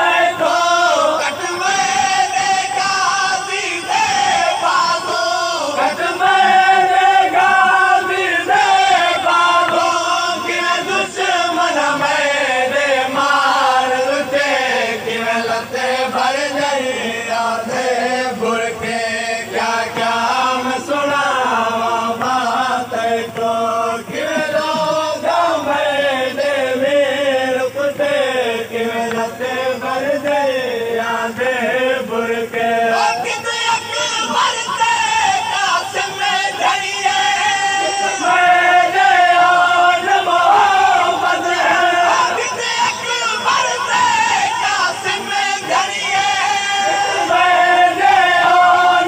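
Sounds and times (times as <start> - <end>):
men chanting a lament: 0.0 - 49.0.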